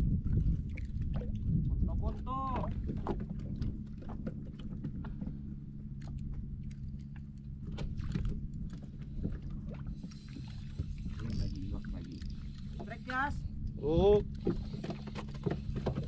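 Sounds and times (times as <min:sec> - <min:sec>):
boat engine idling: 0:02.0 - 0:16.0.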